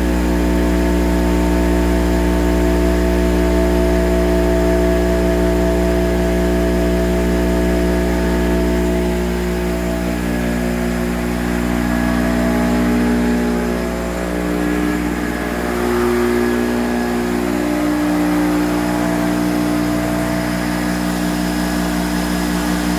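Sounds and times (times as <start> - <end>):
rip saw motor hum: 0.0 - 22.9.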